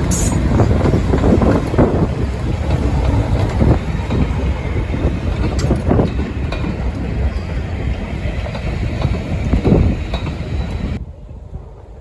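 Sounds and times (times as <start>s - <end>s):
train knocks and clatter: 0.0s - 12.0s
train rumbling: 0.0s - 12.0s.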